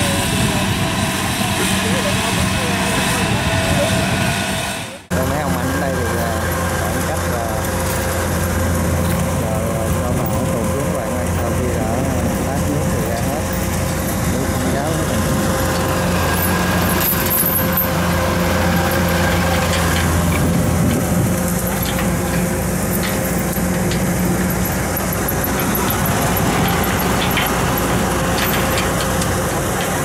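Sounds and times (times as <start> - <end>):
engine humming steadily: 0.0 - 30.0.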